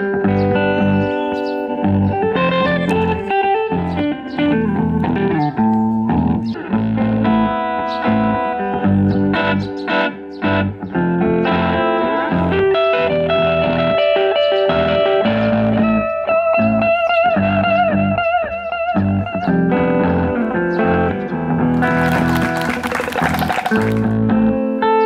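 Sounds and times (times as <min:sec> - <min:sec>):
instrumental guitar playing: 0:00.0 - 0:25.0.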